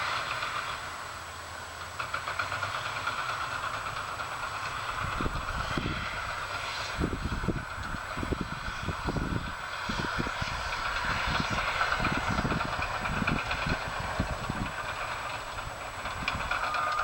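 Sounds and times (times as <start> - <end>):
heavy machinery rattling: 0.0 - 17.0.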